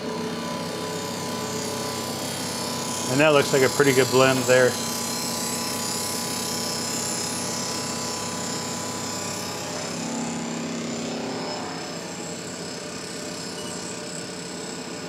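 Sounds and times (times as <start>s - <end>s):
milling machine spindle whirring: 0.0s - 15.0s.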